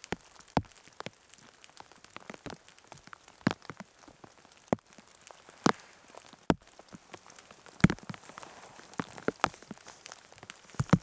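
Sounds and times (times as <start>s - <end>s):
faint steady rain hiss: 0.0s - 11.0s
heavy raindrops tapping: 0.0s - 11.0s.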